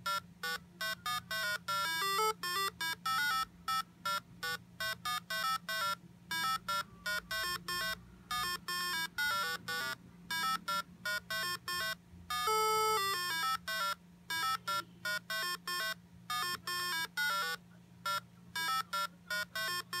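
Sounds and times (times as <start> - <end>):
faint steady hum: 0.0 - 20.0
square-wave beep melody: 0.8 - 4.2, 4.8 - 20.0.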